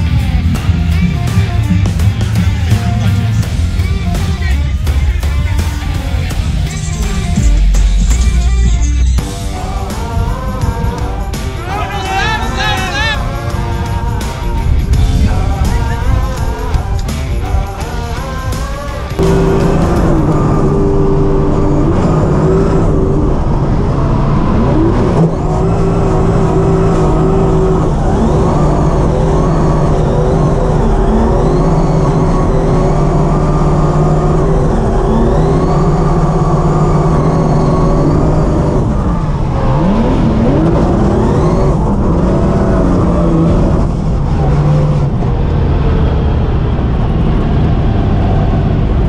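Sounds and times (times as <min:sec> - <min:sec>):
car engine at high revs: 0:00.0 - 0:49.0.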